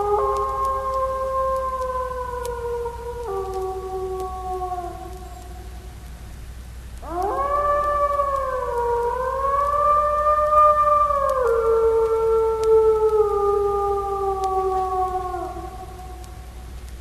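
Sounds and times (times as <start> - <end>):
dog howling: 0.0 - 5.8, 7.0 - 16.6.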